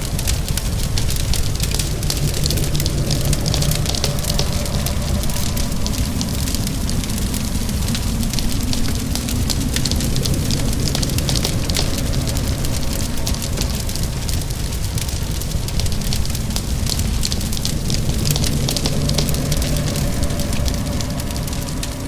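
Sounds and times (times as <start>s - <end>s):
low rumble: 0.0s - 22.0s
rain hissing: 0.0s - 22.0s
wood fire crackling: 0.0s - 22.0s.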